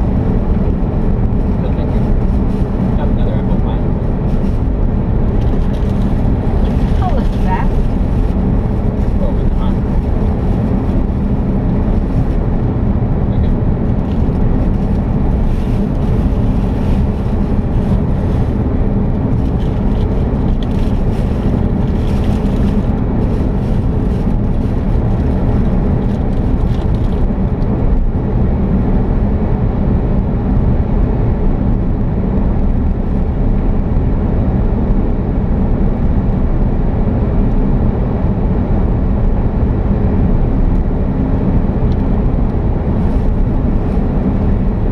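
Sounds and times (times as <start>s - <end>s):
car engine and road noise: 0.0s - 44.9s.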